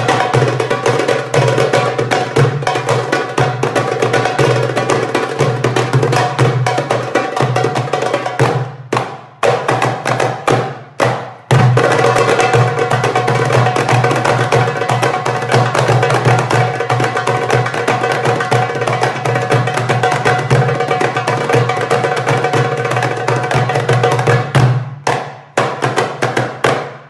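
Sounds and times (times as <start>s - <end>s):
goblet drums played by hand: 0.0s - 27.0s.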